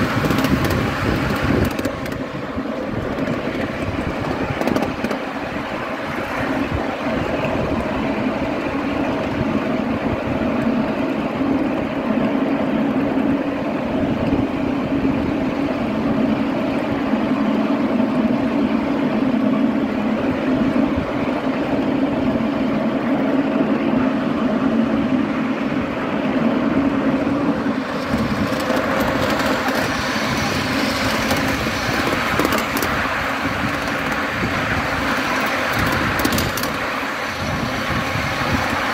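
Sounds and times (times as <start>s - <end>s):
miniature train wheels rumbling: 0.0s - 25.2s, 26.3s - 38.9s.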